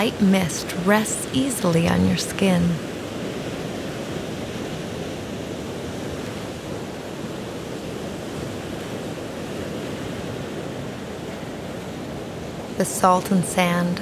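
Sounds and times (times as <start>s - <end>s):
ocean surf on a beach: 0.0s - 14.0s.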